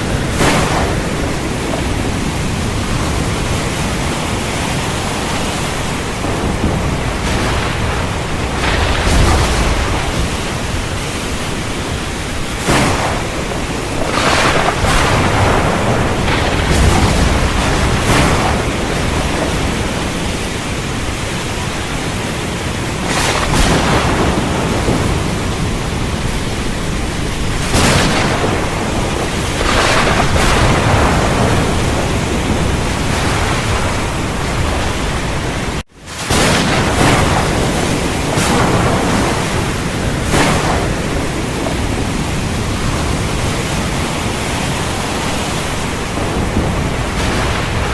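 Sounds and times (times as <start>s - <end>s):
heavy rain pouring: 0.0s - 47.9s
thunder rumbling: 0.0s - 47.9s.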